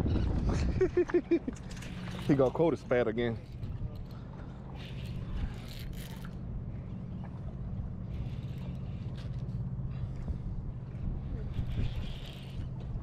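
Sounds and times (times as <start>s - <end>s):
electric trolling motor hum: 1.5s - 13.0s.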